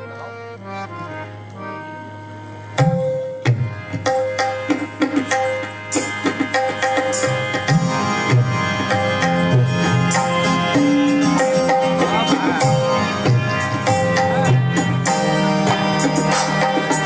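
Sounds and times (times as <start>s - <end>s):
harmonium chords: 0.0s - 17.0s
tabla bass strokes: 0.3s - 17.0s.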